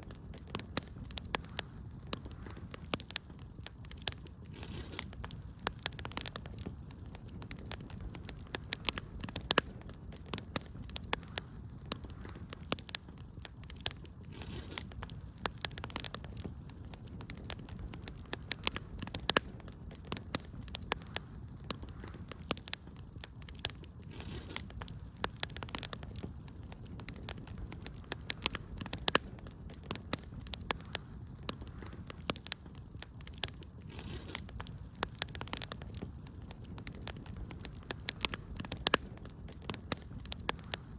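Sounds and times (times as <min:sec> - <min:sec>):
low rushing burn: 0:00.0 - 0:40.9
wood fire crackling and popping: 0:00.0 - 0:40.9.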